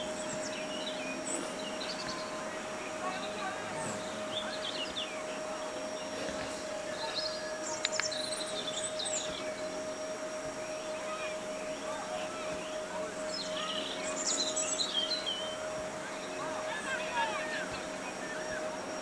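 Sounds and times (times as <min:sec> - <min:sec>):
birds chirping: 0:00.0 - 0:19.0
steady hum: 0:00.0 - 0:19.0.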